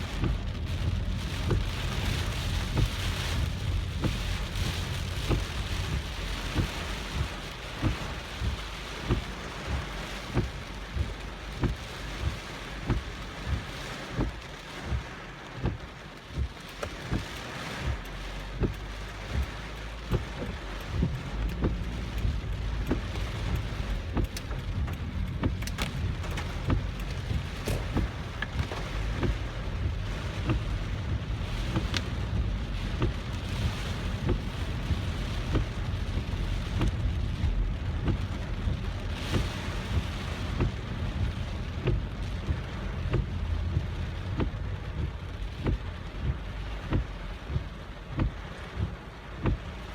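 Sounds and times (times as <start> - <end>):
car rumbling on road: 0.0 - 49.9
heavy rain drumming on a car: 0.0 - 49.9.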